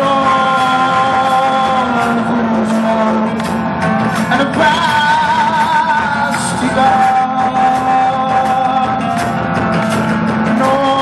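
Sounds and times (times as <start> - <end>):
live band playing: 0.0 - 11.0
man singing long notes: 0.0 - 11.0.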